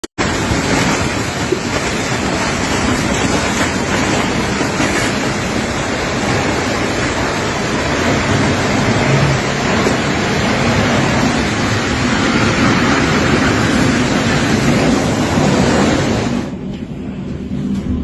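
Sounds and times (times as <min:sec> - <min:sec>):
strong wind buffeting microphone: 0:00.1 - 0:18.0.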